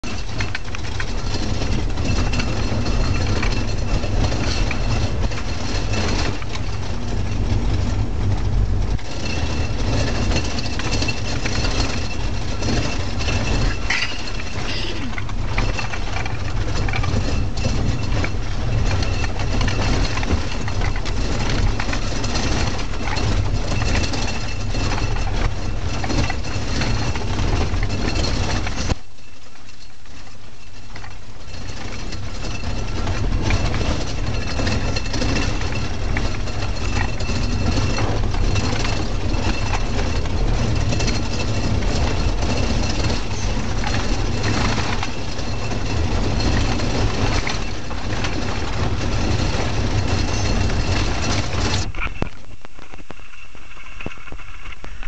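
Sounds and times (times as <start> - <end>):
car body rattling and knocking: 0.0 - 53.0
engine and road rumble: 0.0 - 55.0.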